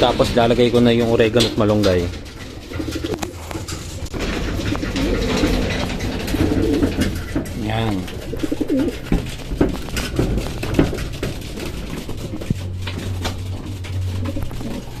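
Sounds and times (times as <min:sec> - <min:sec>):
pigeon cooing: 0:01.2 - 0:15.0.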